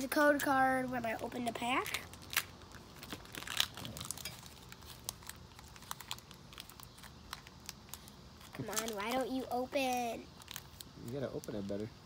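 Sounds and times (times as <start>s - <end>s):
foil pack crinkling and tearing: 0.3s - 11.9s.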